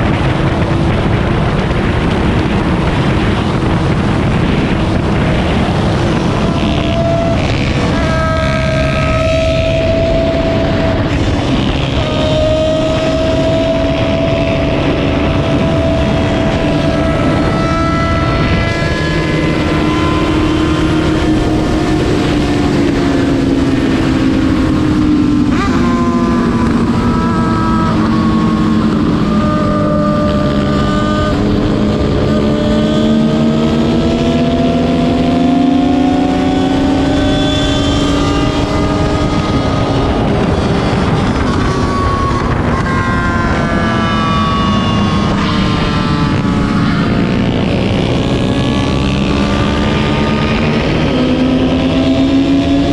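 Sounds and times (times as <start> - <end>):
racing motorcycle engines: 0.0 - 52.9.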